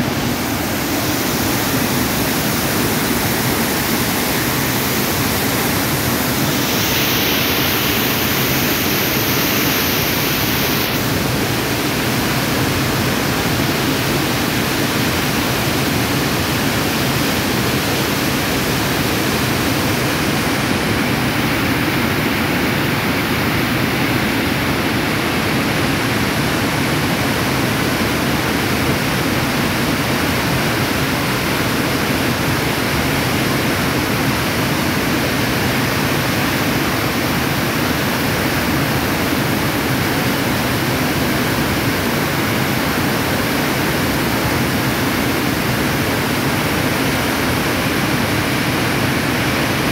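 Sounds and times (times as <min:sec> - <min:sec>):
water rushing over boulders: 0:00.0 - 0:49.9.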